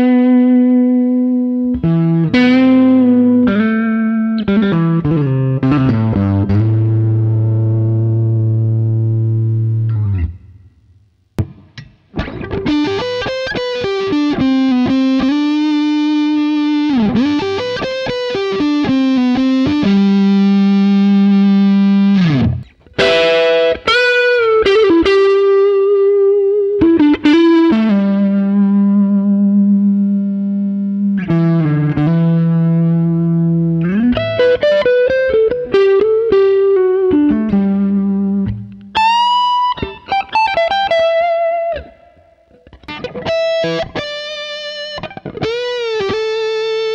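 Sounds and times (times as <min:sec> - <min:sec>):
electric guitar lead line: 0:00.0 - 0:46.9.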